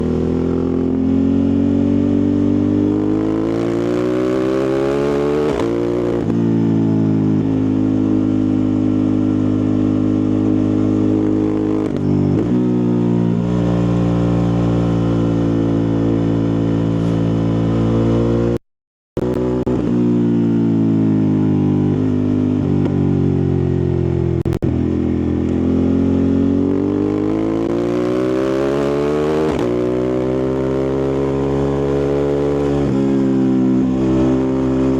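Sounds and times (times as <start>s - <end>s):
motorcycle engine and exhaust: 0.0s - 18.6s, 19.2s - 34.9s.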